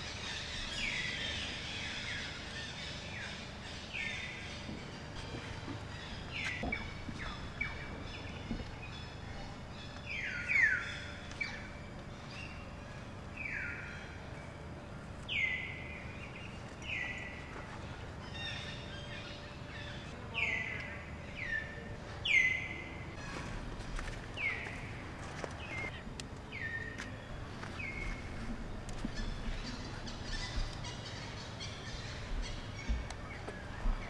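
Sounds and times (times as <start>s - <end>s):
birds calling: 0.0s - 34.0s
low background noise: 0.0s - 34.0s.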